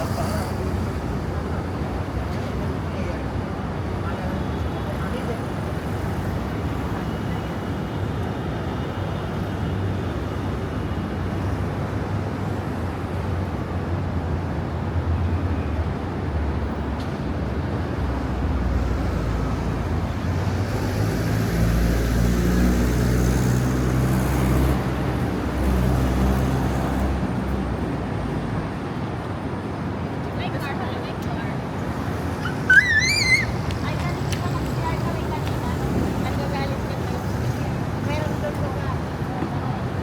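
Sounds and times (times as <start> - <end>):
road vehicles passing: 0.0 - 40.0.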